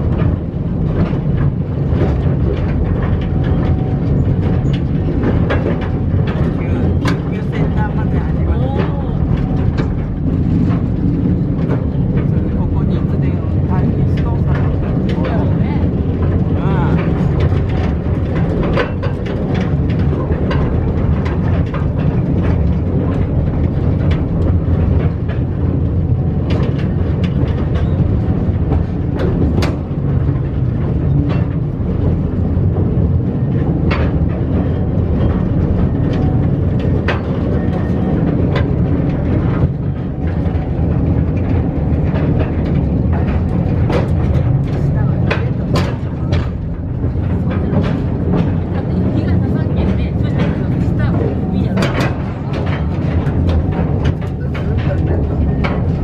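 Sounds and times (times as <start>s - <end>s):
electric train rumbling on rails: 0.0s - 56.0s.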